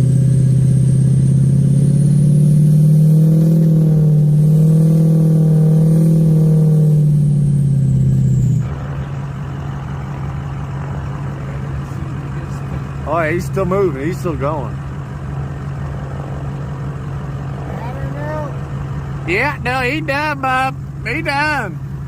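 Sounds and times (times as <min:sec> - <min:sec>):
diesel engine at high revs: 0:00.0 - 0:22.0.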